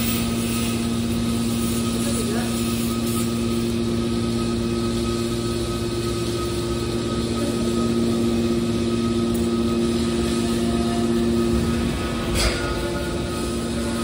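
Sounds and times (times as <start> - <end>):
hydraulic power unit humming: 0.0 - 14.0.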